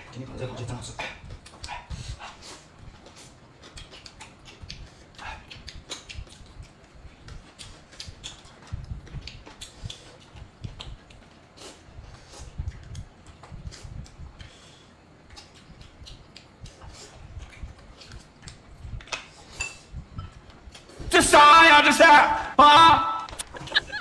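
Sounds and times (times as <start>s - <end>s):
chewing and mouth sounds: 0.8s - 21.0s.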